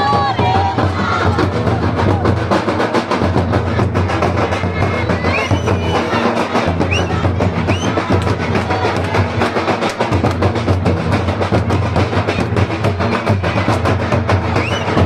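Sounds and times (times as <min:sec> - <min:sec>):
barrel drums drumming: 0:00.0 - 0:15.0
crowd voices: 0:00.0 - 0:15.0.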